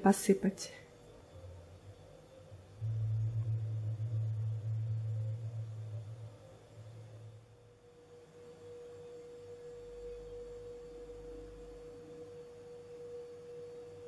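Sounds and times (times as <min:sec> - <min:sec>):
background hiss: 0:00.0 - 0:14.0
faint steady pure tone: 0:00.0 - 0:14.0.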